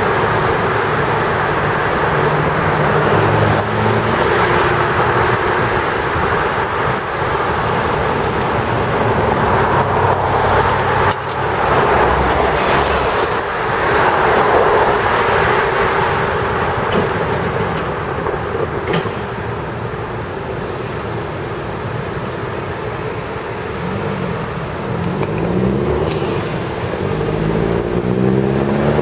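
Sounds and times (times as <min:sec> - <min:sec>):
city street traffic hiss: 0:00.0 - 0:29.0.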